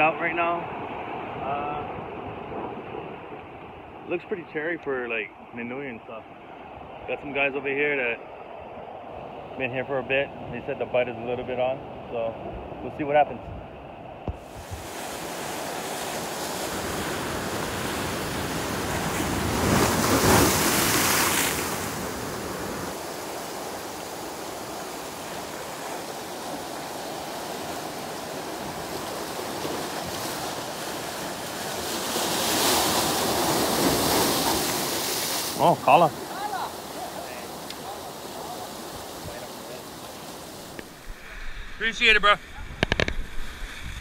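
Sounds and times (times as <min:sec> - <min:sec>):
ocean surf on rocks: 0:00.0 - 0:44.0.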